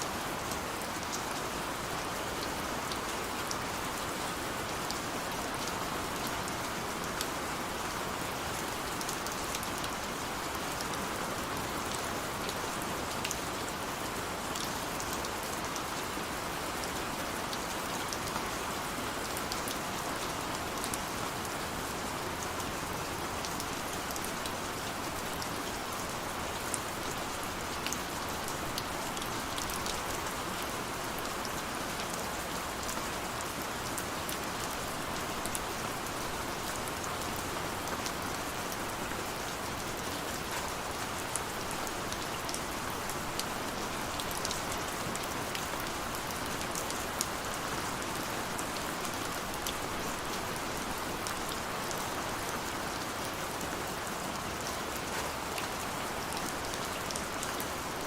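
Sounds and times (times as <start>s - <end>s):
steady gentle rain: 0.0s - 58.0s.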